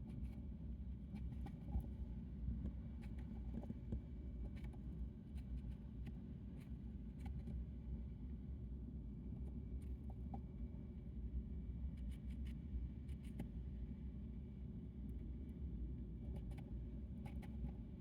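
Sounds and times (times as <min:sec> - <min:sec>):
hamster nibbling and chewing: 0:00.1 - 0:08.5, 0:09.3 - 0:18.0.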